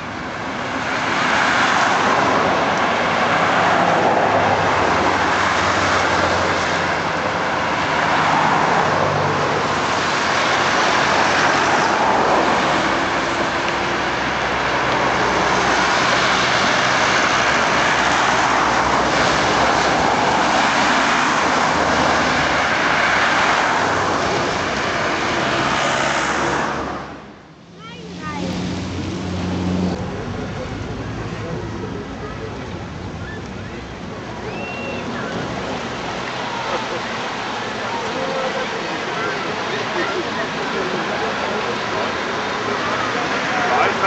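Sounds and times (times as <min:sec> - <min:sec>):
cars passing: 0:00.0 - 0:44.0.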